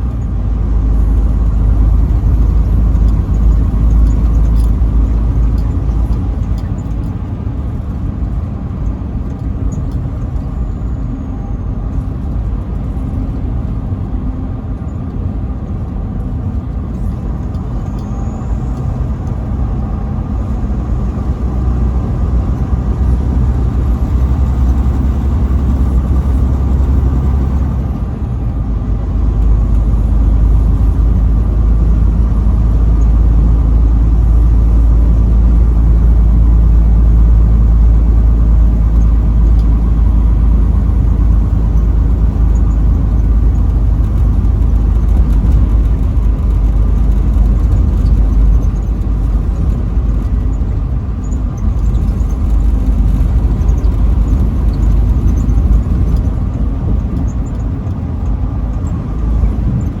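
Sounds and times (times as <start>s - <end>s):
road rumble: 0.0s - 60.0s
truck engine drone: 0.0s - 60.0s.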